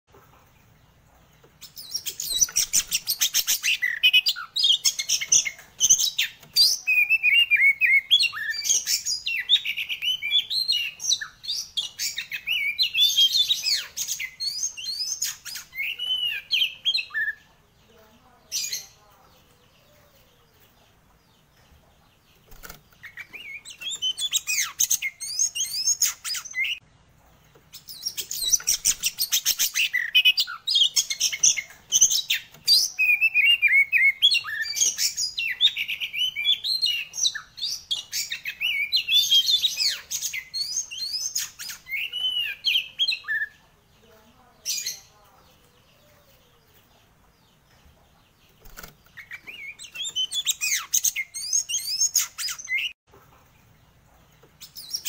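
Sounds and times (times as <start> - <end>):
bird singing high-pitched phrases: 1.6 - 26.9, 27.7 - 53.0.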